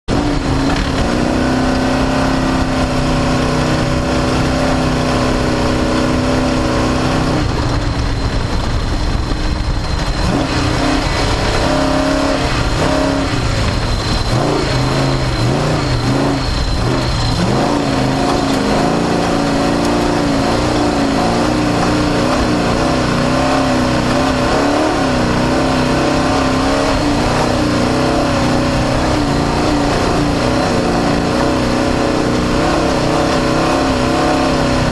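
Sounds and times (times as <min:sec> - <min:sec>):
race car engine running hard: 0:00.0 - 0:34.9
road and wind noise: 0:00.0 - 0:34.9.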